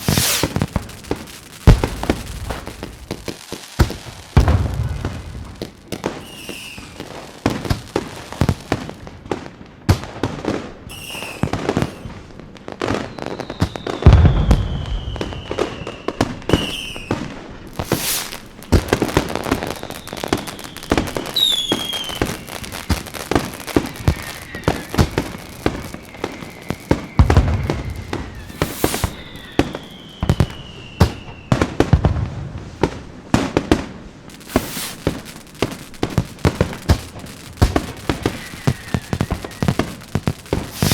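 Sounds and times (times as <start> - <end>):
whistling rockets: 0.0 - 8.9, 10.8 - 40.9
deep firework booms: 0.0 - 9.0, 13.6 - 40.9
fireworks crackling and popping: 0.0 - 40.9.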